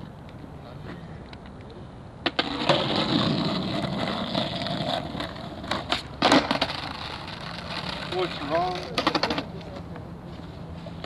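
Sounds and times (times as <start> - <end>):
skateboard clacks: 0.0 - 11.0
skateboard slapping ground: 0.0 - 11.0
skateboard wheels rolling on pavement: 0.0 - 11.0.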